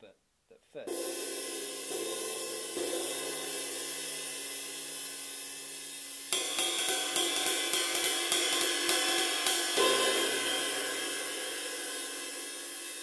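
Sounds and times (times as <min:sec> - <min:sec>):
ride cymbal with sizzling rivets: 0:00.9 - 0:13.0.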